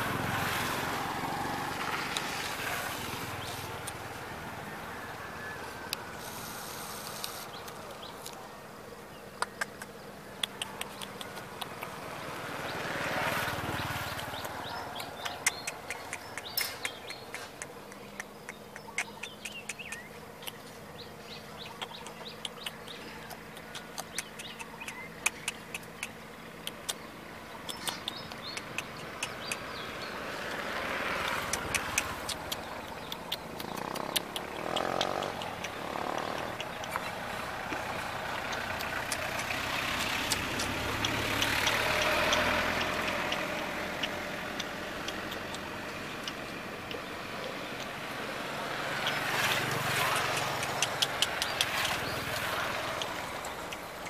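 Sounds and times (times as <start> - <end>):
vehicle passing: 0.0 - 54.0.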